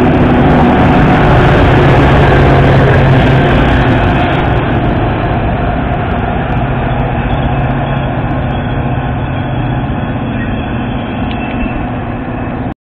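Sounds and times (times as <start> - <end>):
train rolling noise: 0.0 - 12.7
diesel locomotive engine under load: 0.0 - 12.8.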